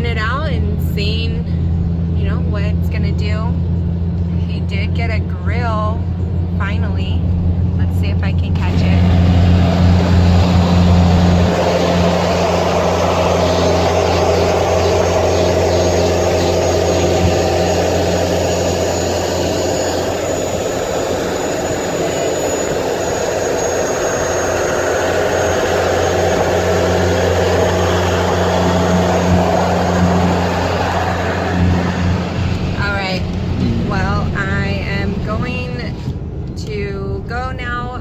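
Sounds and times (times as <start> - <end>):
engine and tyre hum: 0.0 - 37.8
wind and road noise: 0.0 - 38.0.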